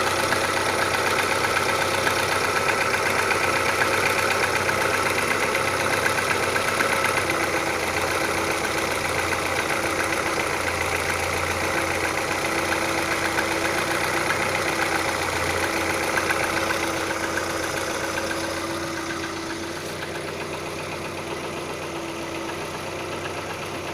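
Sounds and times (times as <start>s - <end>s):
car engine idling with knock: 0.0s - 23.9s.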